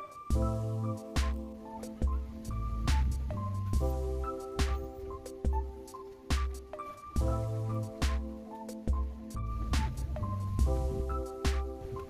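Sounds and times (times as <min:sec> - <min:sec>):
background music chords and bass: 0:00.0 - 0:12.0.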